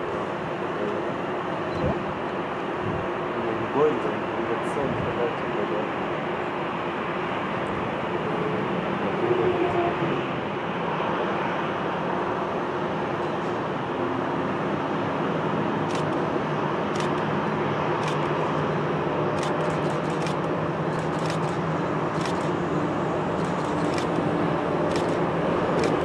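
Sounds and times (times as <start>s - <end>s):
jet engines idling: 0.0s - 26.0s.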